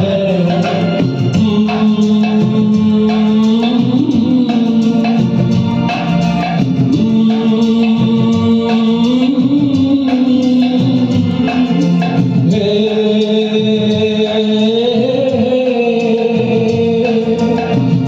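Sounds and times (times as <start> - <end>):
karaoke backing track: 0.0 - 18.0.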